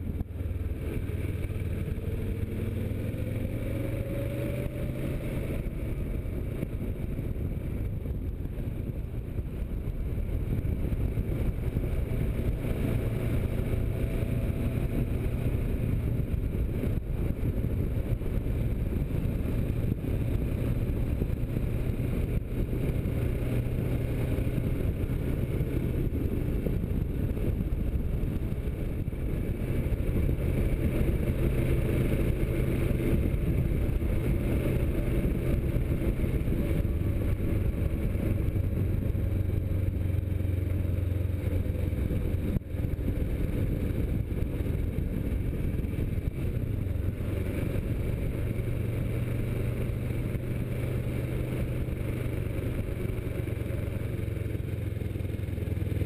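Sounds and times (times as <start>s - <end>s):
motorcycle engine at speed: 0.0s - 56.0s
wind rumble over microphone: 0.0s - 56.0s.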